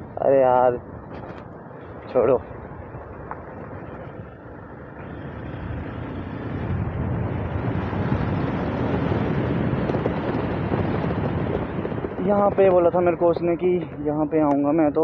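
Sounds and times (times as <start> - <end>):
road noise: 0.0 - 15.0
rushing wind: 0.0 - 15.0.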